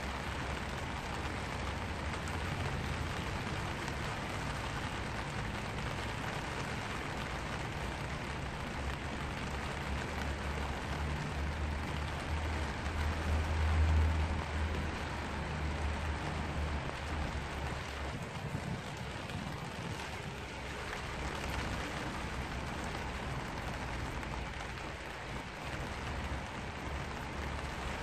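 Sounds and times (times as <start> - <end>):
rain on umbrella: 0.0 - 28.0.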